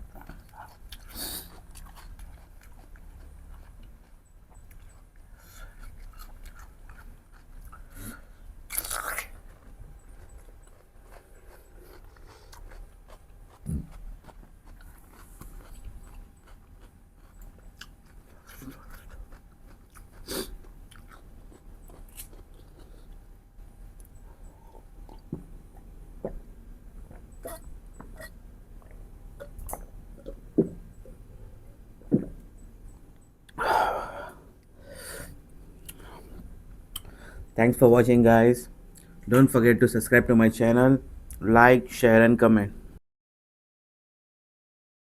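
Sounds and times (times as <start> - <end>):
person chewing food: 0.0 - 37.5.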